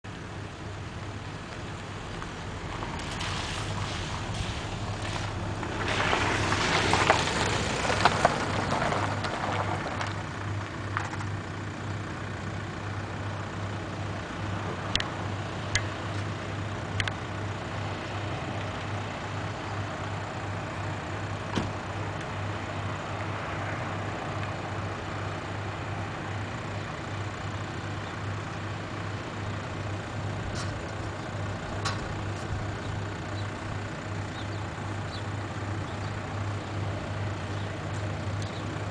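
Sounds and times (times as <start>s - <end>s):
ferry engine pulsing hum: 0.1s - 38.9s.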